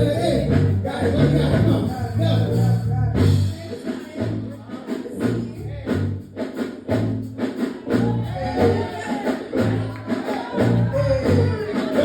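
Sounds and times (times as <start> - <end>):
backing beat with bass and percussion: 0.0 - 12.0.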